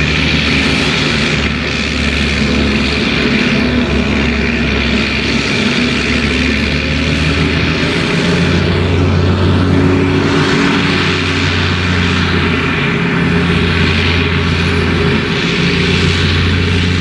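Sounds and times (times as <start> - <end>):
chopper rushing noise: 0.0 - 17.0
harvester engine under load: 0.0 - 17.0.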